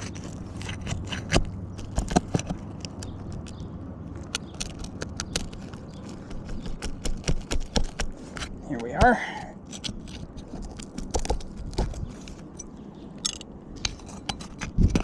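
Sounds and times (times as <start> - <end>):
metal tool scraping shingle: 0.0 - 3.5, 4.4 - 15.0.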